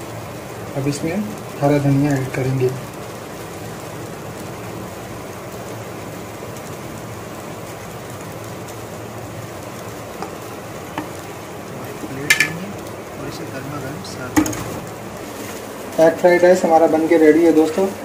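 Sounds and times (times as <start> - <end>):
food frying in a pan: 0.0 - 18.0.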